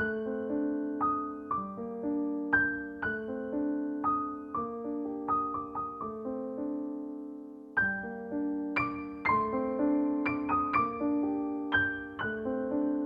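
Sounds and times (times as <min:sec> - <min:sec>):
gentle solo piano melody: 0:00.0 - 0:13.0.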